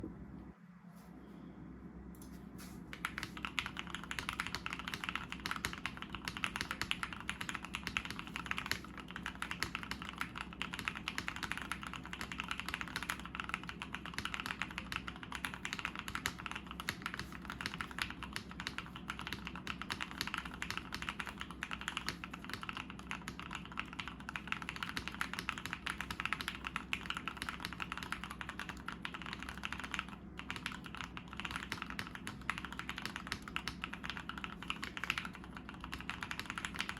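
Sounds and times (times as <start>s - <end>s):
fast typing on mechanical keyboard: 2.9s - 36.9s.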